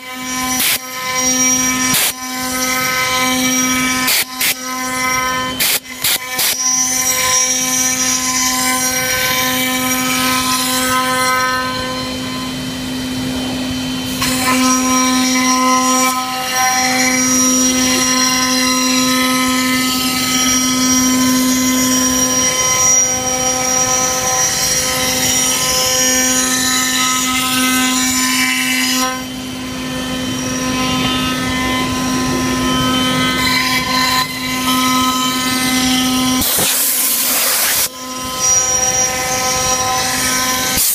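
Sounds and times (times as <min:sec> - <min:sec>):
wood router cutting: 0:00.0 - 0:40.9.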